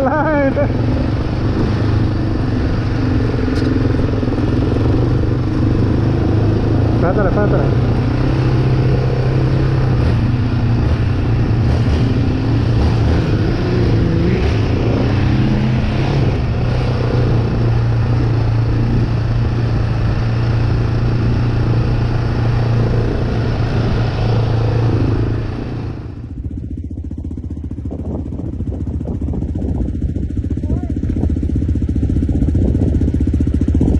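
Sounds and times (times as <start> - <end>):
off-road vehicle engine rattling: 0.0 - 33.9.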